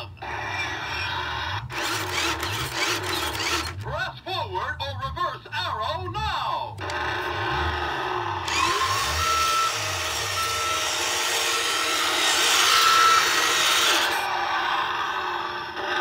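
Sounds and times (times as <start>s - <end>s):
toy truck motor whirring: 0.0s - 3.9s, 6.8s - 16.0s.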